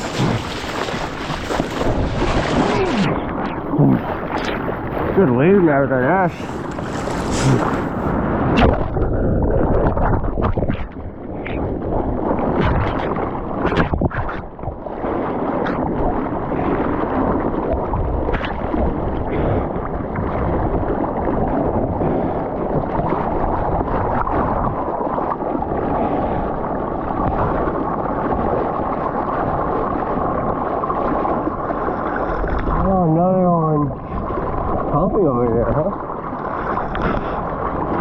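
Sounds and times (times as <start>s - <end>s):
ocean surf splashing: 0.0s - 8.9s, 14.8s - 38.0s
wind noise: 0.0s - 38.0s.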